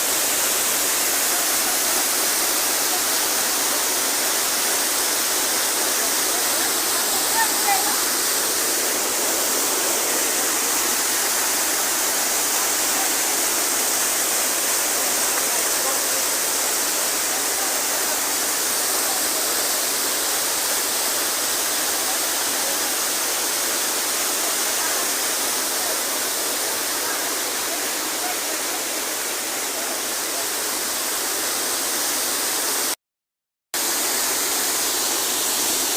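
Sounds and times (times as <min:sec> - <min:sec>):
waterfall rushing: 0:00.0 - 0:33.0, 0:33.8 - 0:35.9.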